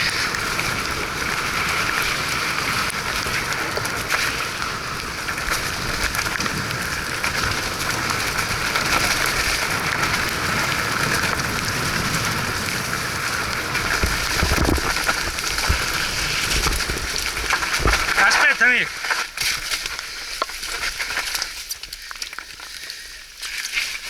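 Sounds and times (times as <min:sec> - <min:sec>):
rain hiss and patter: 0:00.0 - 0:24.0.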